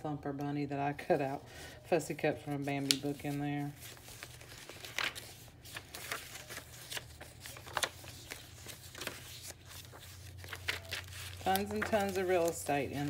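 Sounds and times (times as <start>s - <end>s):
paper pages rustling: 2.4s - 13.0s.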